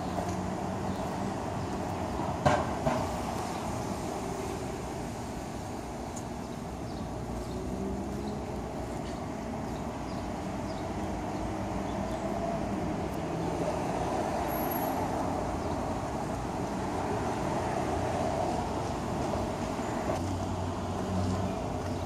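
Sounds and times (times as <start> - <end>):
road hiss: 0.0 - 22.0.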